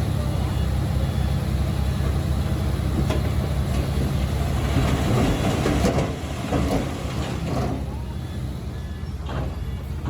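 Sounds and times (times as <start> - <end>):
bulldozer diesel engine running: 0.0 - 10.0.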